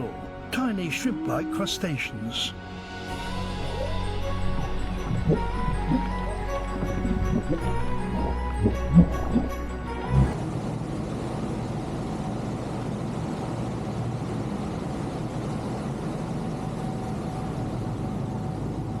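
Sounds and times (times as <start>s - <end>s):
boat engine rumble: 2.6s - 19.0s.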